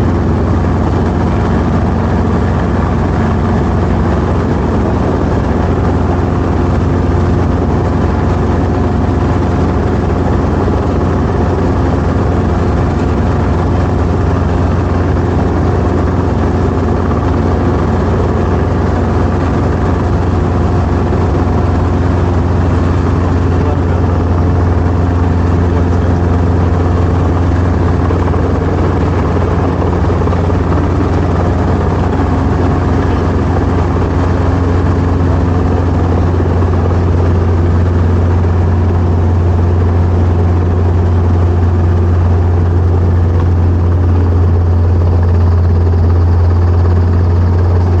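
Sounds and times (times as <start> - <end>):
helicopter engine and rotor: 0.0 - 48.0.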